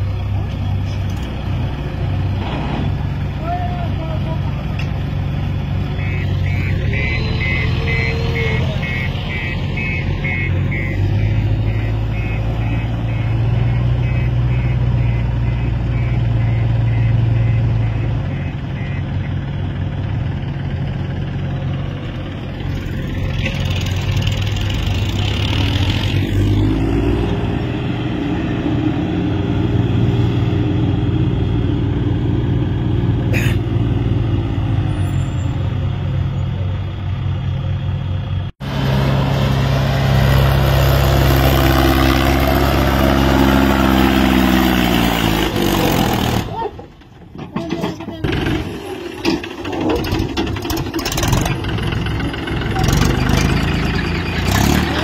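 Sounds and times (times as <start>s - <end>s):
backhoe loader diesel running: 0.0s - 55.0s
tractor diesel engine labouring: 0.0s - 55.0s.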